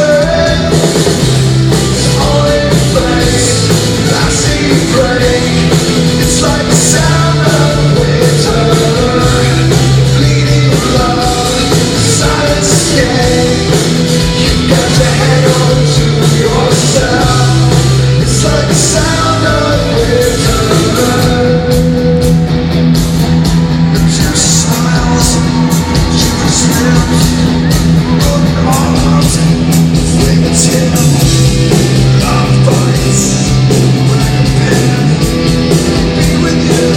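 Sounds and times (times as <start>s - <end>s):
man singing: 0.0s - 22.5s, 23.9s - 36.9s
rock band playing: 0.0s - 36.9s.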